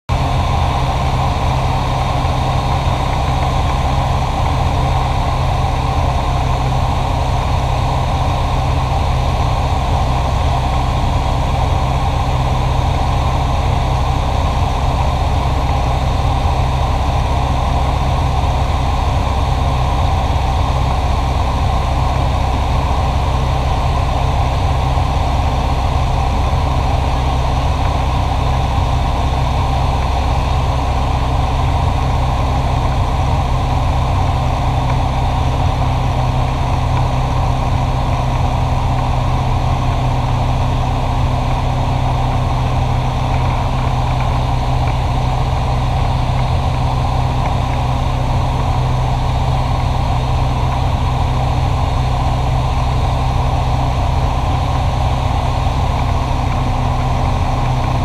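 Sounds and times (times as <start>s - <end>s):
aircraft engine and propeller droning: 0.1s - 58.0s.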